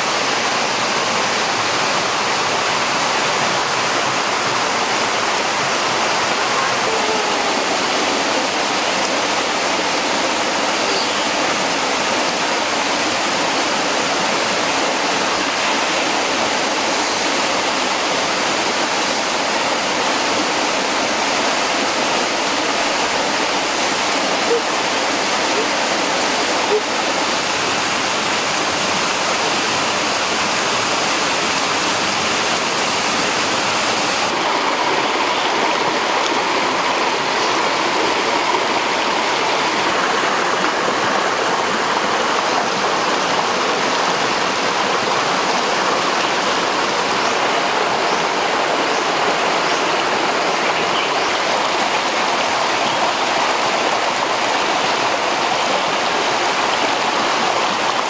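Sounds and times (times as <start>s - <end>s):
stream rushing over stones: 0.0s - 58.0s.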